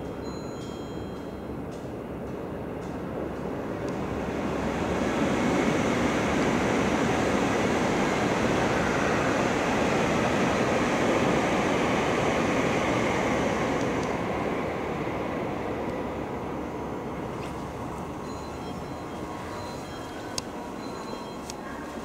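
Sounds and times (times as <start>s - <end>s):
high-speed train rushing past: 1.2s - 22.0s.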